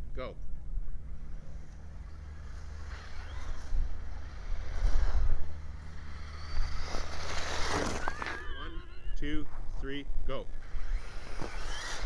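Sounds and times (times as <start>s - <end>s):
wind rumble on microphone: 0.0s - 12.0s
electric motors whirring: 0.4s - 12.0s.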